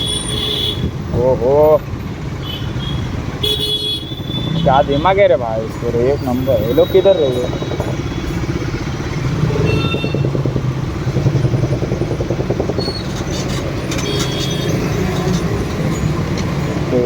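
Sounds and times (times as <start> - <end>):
motorcycle engine running: 2.0 - 17.0.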